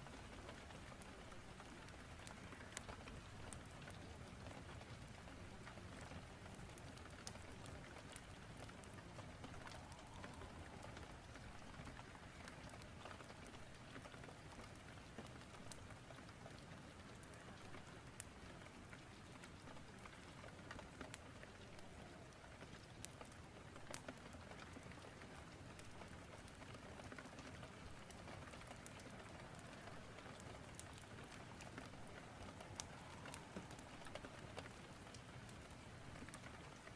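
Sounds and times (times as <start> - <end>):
hiss of rain: 0.0 - 36.9
sharp ticks and crackles: 0.0 - 36.9.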